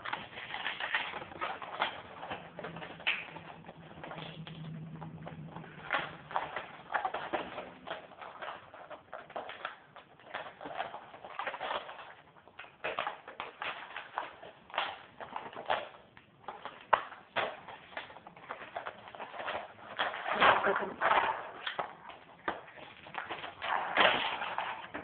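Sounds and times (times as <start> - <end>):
packaging crinkling and rustling: 0.0 - 25.0.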